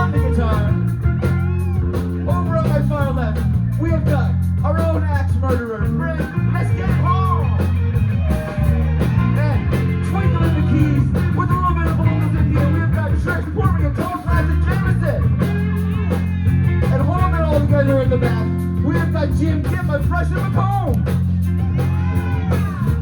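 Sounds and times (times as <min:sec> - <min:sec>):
bass guitar: 0:00.0 - 0:23.0
electric guitars: 0:00.0 - 0:23.0
steady drum beat: 0:00.0 - 0:23.0.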